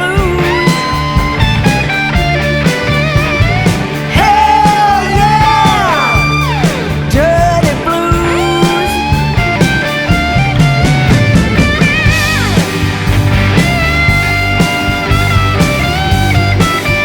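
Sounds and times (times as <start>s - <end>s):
blues-rock band playing: 0.0s - 17.0s
steady drum beat: 0.0s - 17.0s
wailing lead guitar line: 0.0s - 17.0s.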